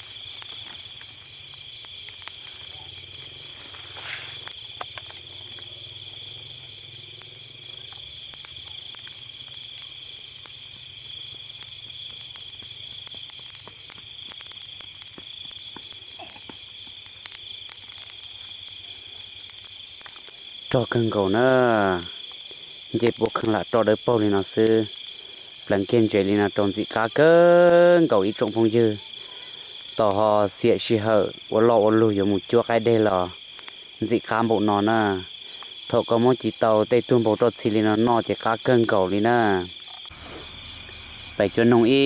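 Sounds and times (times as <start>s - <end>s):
crickets trilling: 0.0s - 42.0s
fire embers crackling: 0.0s - 42.0s.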